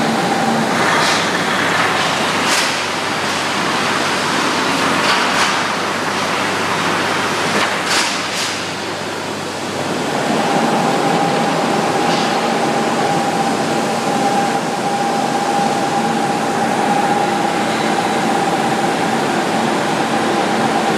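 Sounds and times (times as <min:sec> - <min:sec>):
steady machine whine: 0:00.0 - 0:07.5, 0:08.7 - 0:20.9.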